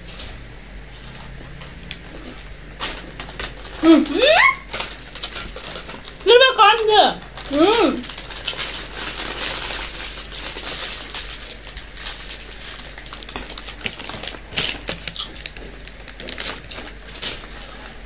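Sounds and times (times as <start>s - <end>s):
potato chips crunching: 0.0s - 18.0s
chip packet crinkling: 1.0s - 18.0s.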